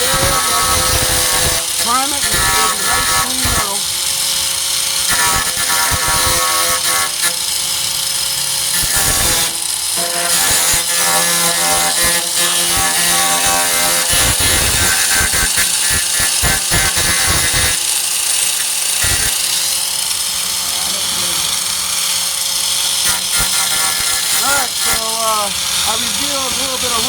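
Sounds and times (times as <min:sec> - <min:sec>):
angle grinder grinding metal: 0:00.0 - 0:27.0.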